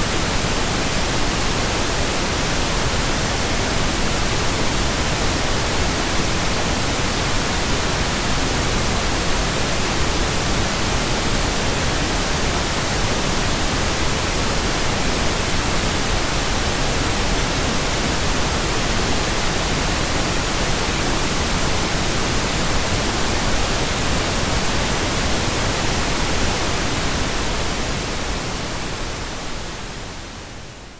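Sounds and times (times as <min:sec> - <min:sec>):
pink noise hiss: 0:00.0 - 0:30.9.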